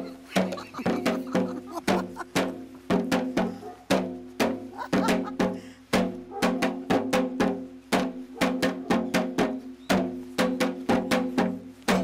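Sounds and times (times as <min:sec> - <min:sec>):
hourglass drum fast rhythm: 0:00.0 - 0:12.0.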